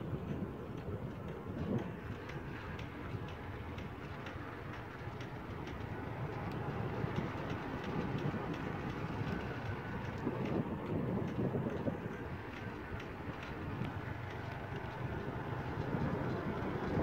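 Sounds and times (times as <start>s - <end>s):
vehicle driving on road: 0.0s - 17.0s.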